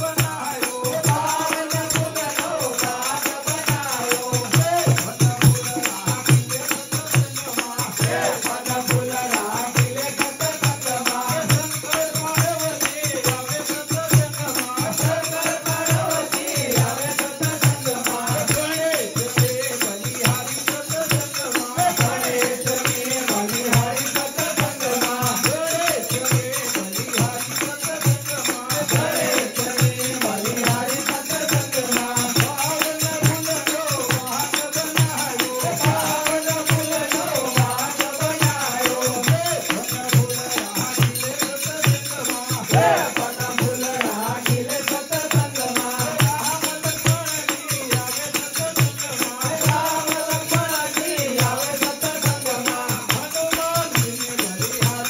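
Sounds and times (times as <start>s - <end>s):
jingling hand percussion: 0.0s - 55.0s
men singing devotional song: 0.0s - 55.0s.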